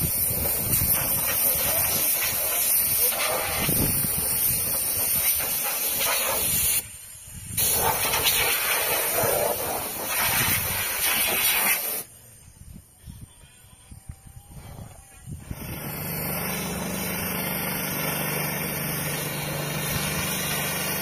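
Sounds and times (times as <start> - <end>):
pressure hose spray hissing: 0.0 - 12.1, 15.5 - 21.0.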